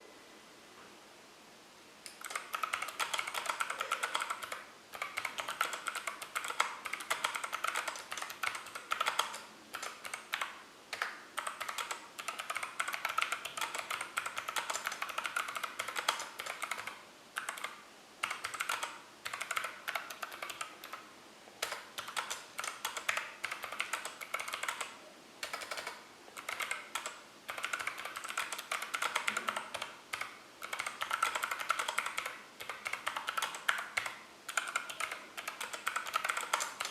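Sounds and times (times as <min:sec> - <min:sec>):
clicky keyboard typing: 0:02.1 - 0:21.0, 0:21.6 - 0:36.9.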